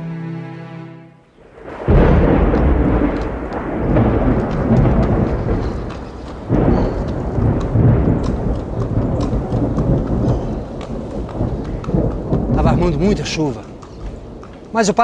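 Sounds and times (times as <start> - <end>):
rolling thunder: 1.4 - 14.5
heavy rain: 1.4 - 15.0.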